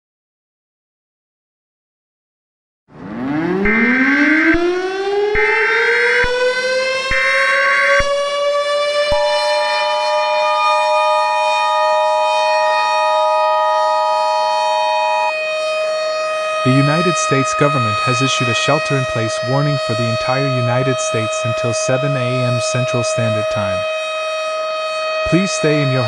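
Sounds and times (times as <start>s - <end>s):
civil defense siren wail: 2.9s - 26.0s.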